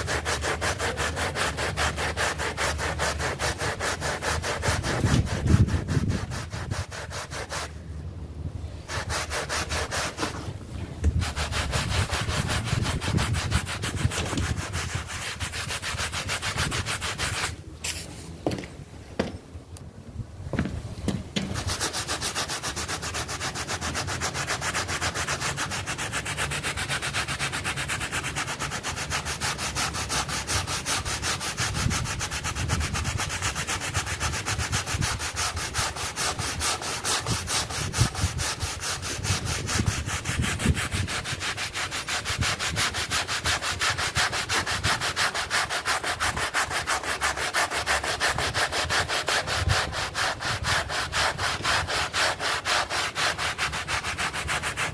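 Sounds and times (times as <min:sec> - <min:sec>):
brush scrubbing wet rug: 0:00.0 - 0:07.7, 0:08.8 - 0:10.5, 0:11.1 - 0:17.6, 0:21.5 - 0:54.9.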